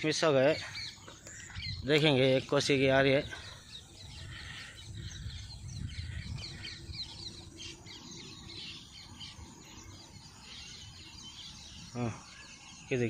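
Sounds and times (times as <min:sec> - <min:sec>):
birds chirping chorus: 0:00.0 - 0:13.0.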